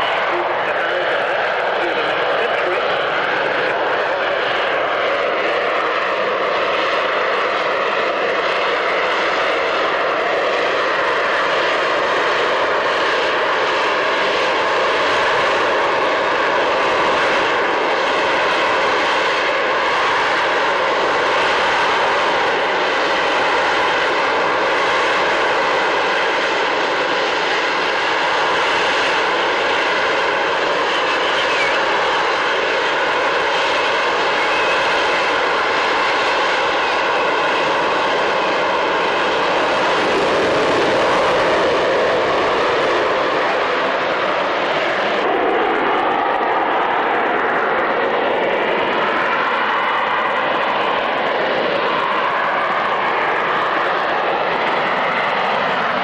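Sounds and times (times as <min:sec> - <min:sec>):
jet engine roar and whine: 0:00.0 - 0:56.0.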